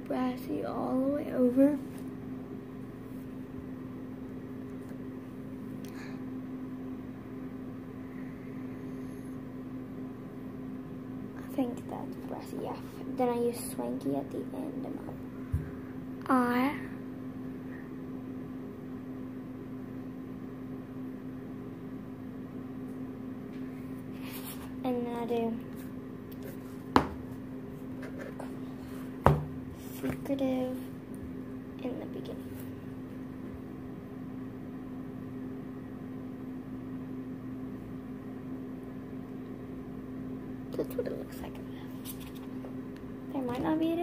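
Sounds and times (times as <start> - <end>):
appliance humming: 0.0 - 44.0.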